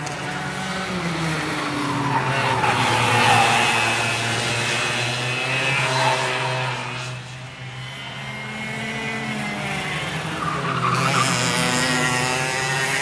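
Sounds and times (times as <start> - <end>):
go-kart engines droning: 0.0 - 13.0.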